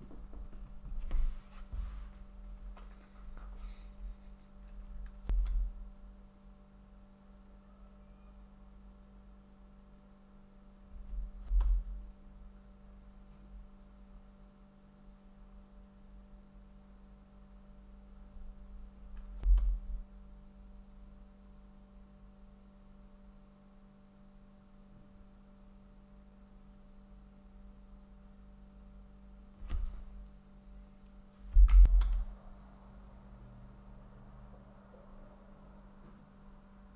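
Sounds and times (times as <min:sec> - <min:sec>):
steady electrical hum: 0:00.0 - 0:36.9.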